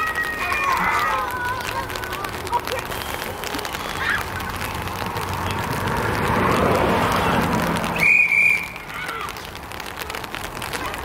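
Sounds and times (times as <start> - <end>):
noisy outdoor background: 0.0 - 11.0.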